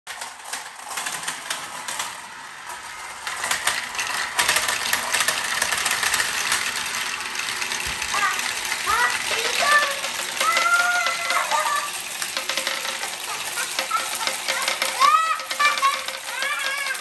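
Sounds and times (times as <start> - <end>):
marbles rolling and clattering: 0.2 - 17.0.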